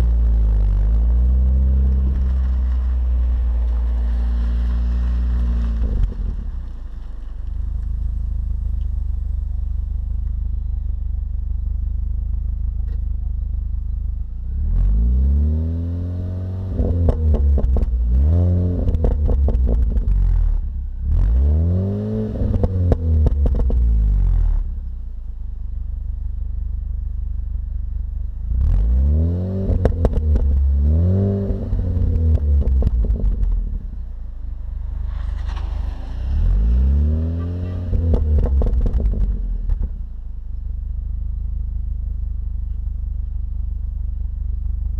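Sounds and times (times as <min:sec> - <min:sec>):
car engine idling and revving: 0:00.0 - 0:44.9
exhaust crackle: 0:00.0 - 0:44.9.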